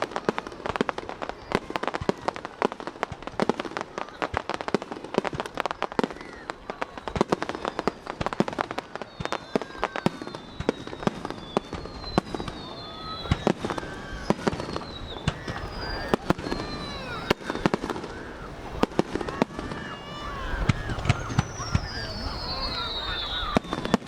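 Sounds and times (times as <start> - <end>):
firework bangs and crackles: 0.0 - 24.0
whistling fireworks: 0.0 - 24.0.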